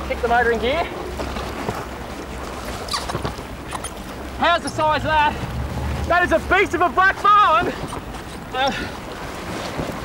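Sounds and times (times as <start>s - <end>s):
water splashing: 0.0s - 10.0s
wind: 0.0s - 10.0s.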